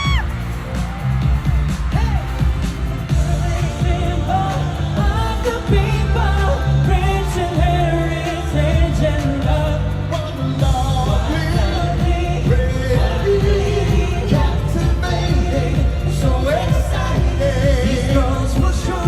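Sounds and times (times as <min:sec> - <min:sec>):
pop song with singer and band: 0:00.0 - 0:19.0.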